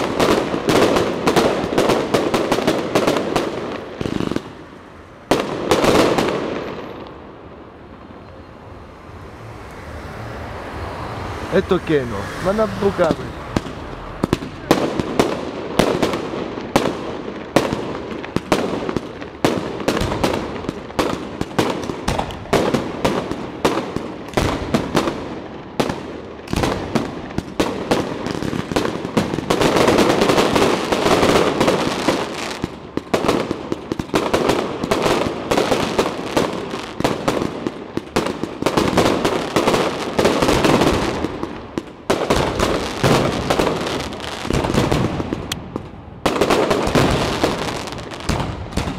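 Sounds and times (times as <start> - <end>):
fireworks bursting and crackling: 0.0 - 8.4, 11.5 - 48.9.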